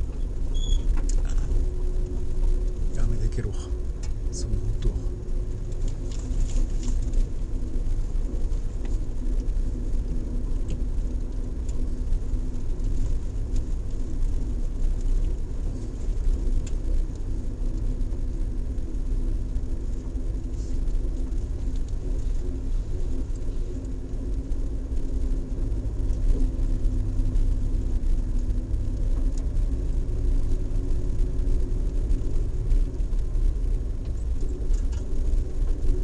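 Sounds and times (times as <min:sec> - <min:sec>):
car engine and tyres rumbling: 0:00.0 - 0:36.0
small clicks and ticks: 0:00.0 - 0:36.0.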